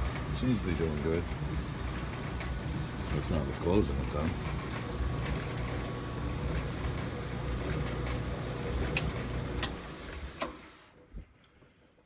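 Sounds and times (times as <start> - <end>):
dryer drum rumbling: 0.0 - 10.8.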